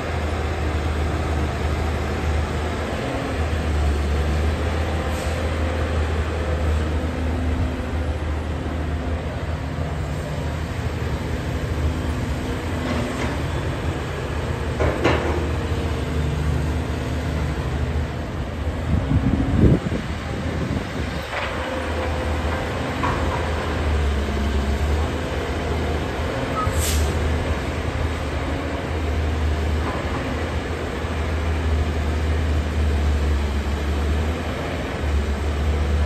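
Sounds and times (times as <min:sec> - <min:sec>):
heavy engines rumbling: 0:00.0 - 0:36.0.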